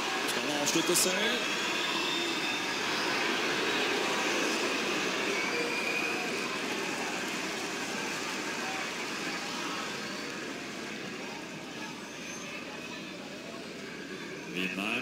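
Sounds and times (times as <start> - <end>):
stadium crowd noise: 0.0 - 15.0.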